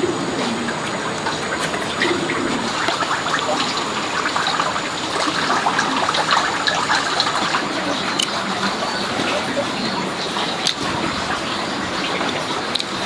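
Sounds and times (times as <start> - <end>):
water running and splashing: 0.0 - 13.0.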